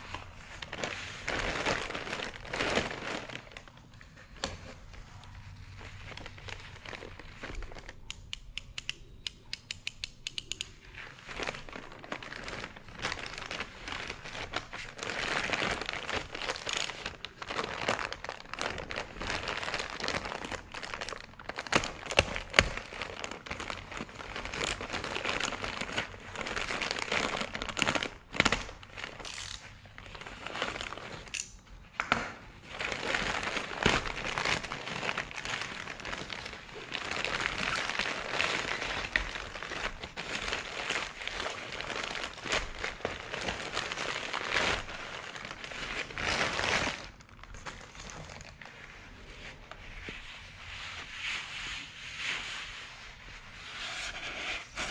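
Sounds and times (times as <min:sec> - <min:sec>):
plastic mailer bag crinkling and tearing: 0:00.0 - 0:08.1, 0:10.9 - 0:31.4, 0:32.6 - 0:48.8.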